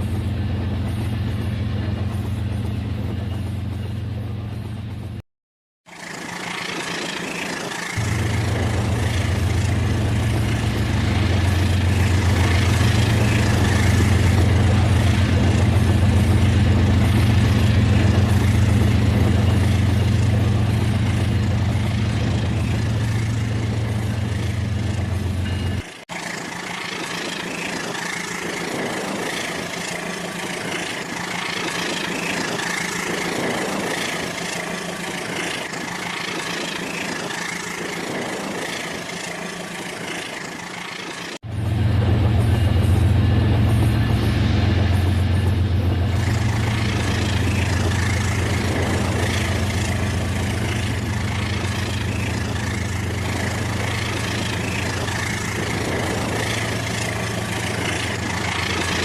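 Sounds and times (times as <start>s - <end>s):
toy train running with hum: 5.9s - 41.4s, 46.0s - 59.0s.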